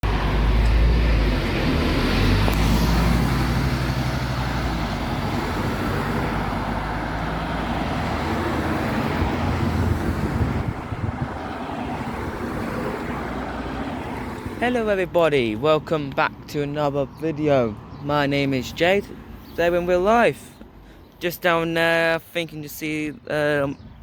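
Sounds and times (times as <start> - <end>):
vehicle engine rumbling: 0.0 - 21.2
traffic noise: 0.0 - 24.0.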